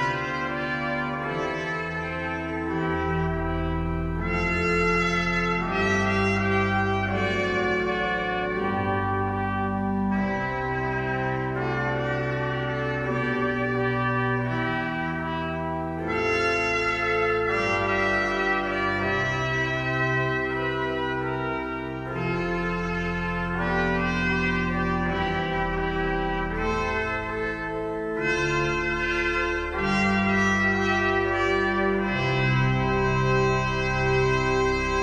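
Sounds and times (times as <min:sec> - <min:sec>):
pipe organ chords: 0:00.0 - 0:35.0
trumpet melody: 0:00.0 - 0:35.0.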